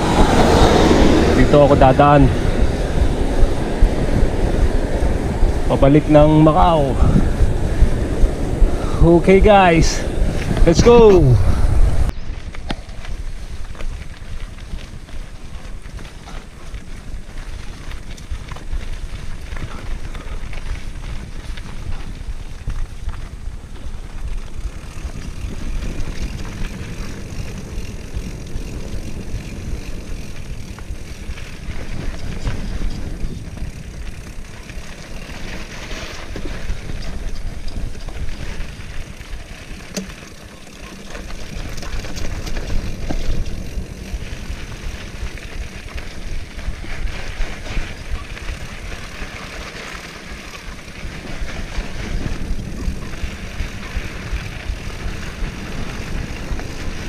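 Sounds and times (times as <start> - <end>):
bike clicks and rattles: 0.0 - 57.0
bike tyre noise on dirt: 0.0 - 57.0
wind buffeting microphone: 0.0 - 57.0.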